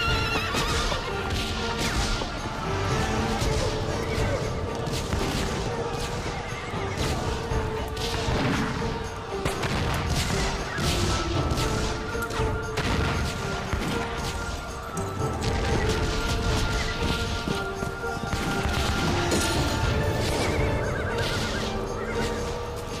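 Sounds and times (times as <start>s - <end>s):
horses neighing: 0.0s - 9.4s, 13.5s - 23.0s
music with long held notes: 0.0s - 23.0s.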